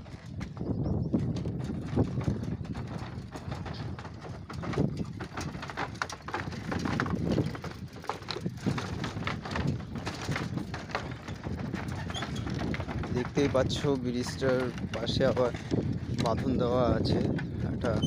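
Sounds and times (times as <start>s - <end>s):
bamboo poles clattering: 0.0s - 18.0s
footsteps on bamboo bridge: 0.0s - 18.0s.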